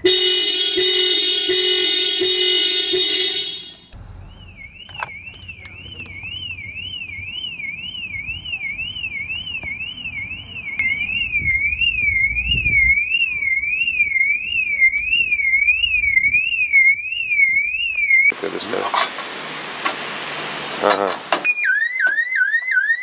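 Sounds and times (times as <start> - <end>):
car alarm siren wailing: 0.0 - 18.4, 21.4 - 23.0.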